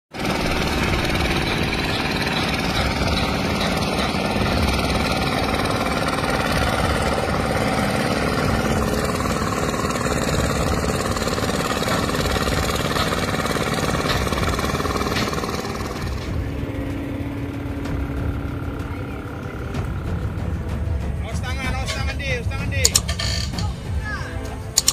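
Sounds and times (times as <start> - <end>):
excavator diesel engine running: 0.2 - 24.9.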